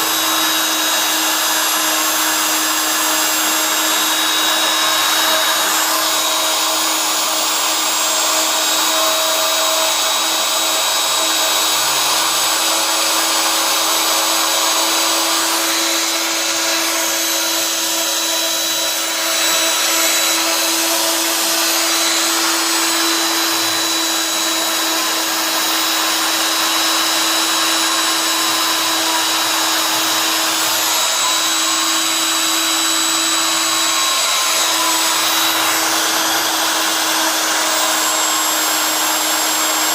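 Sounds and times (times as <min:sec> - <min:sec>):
machine whining: 0:00.0 - 0:39.9.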